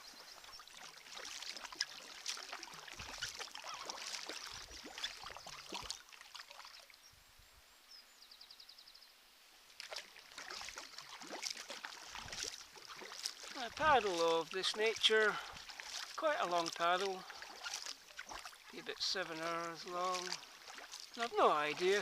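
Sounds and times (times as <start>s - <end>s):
paddle splashing in water: 0.0s - 7.0s, 9.8s - 22.0s.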